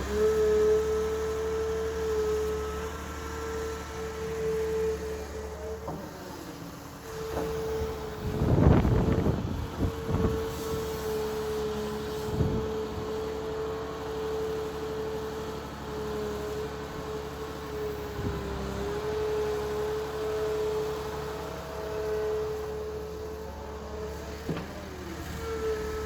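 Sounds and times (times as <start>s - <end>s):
excavator whine: 0.0s - 26.0s.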